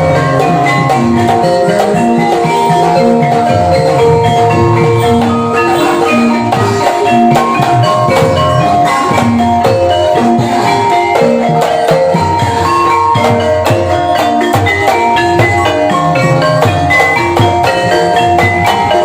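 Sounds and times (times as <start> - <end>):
mallet-struck tuned percussion: 0.0 - 19.0.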